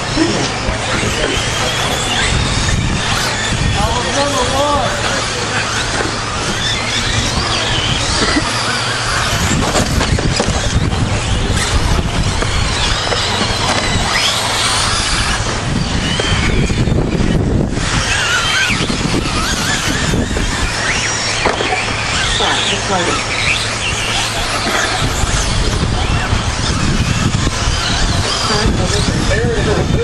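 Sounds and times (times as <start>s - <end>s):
toy truck electric motors whining: 0.0s - 30.0s.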